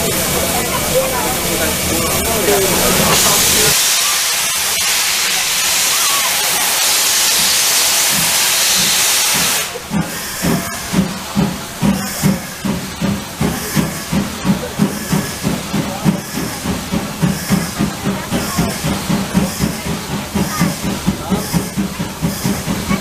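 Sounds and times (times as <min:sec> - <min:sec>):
steam hissing: 0:00.0 - 0:23.0
steam locomotive exhaust beats: 0:00.0 - 0:23.0.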